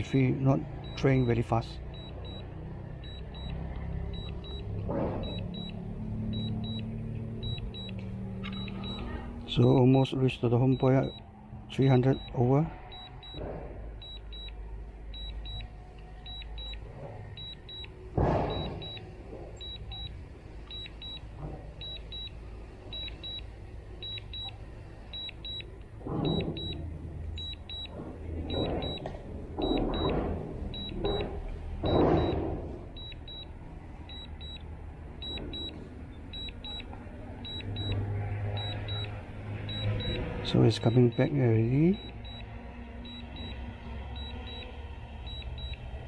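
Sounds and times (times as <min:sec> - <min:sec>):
remote controller double beeps: 0:00.8 - 0:09.9, 0:10.6 - 0:45.9.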